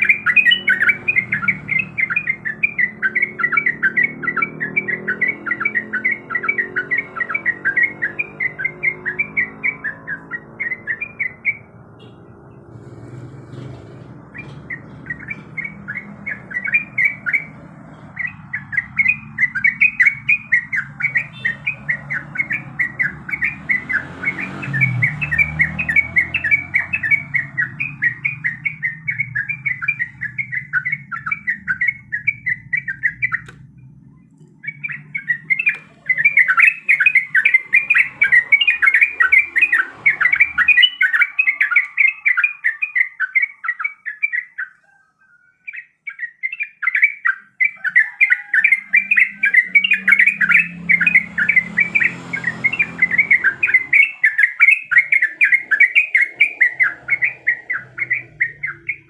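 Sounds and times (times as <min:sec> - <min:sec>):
bird singing chattering song: 0:00.0 - 0:59.0.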